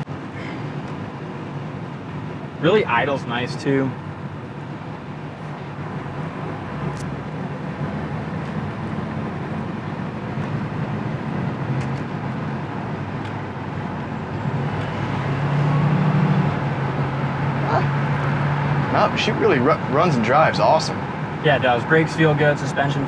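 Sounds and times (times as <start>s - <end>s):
car engine running: 0.1s - 23.0s.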